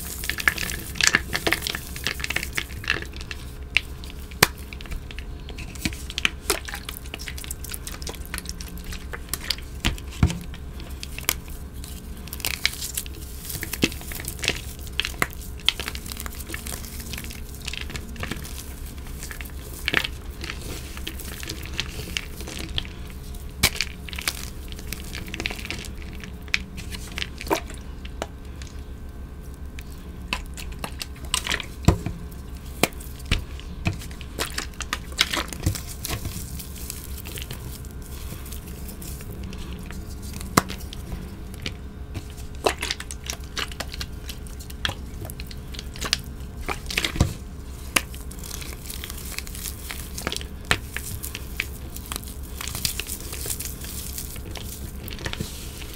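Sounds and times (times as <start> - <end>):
chalk blocks crunching and cracking: 0.0 - 55.9
crumbs grinding on plastic board: 0.0 - 55.9.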